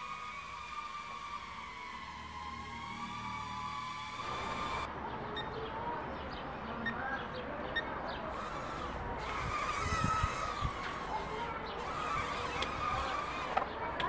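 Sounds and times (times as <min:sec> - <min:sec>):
quadcopter motors whining: 0:00.0 - 0:05.6, 0:08.1 - 0:14.0.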